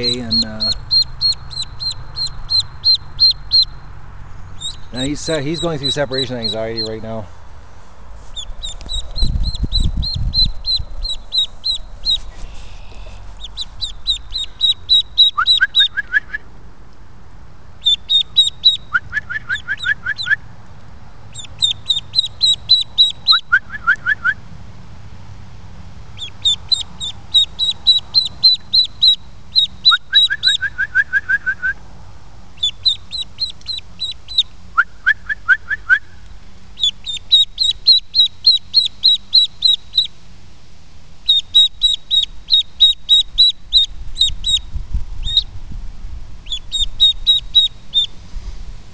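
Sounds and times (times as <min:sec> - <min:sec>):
duckling peeping: 0:00.0 - 0:07.2, 0:08.2 - 0:16.5, 0:17.8 - 0:20.5, 0:21.3 - 0:24.4, 0:26.1 - 0:31.8, 0:32.5 - 0:40.2, 0:41.2 - 0:45.5, 0:46.4 - 0:48.2.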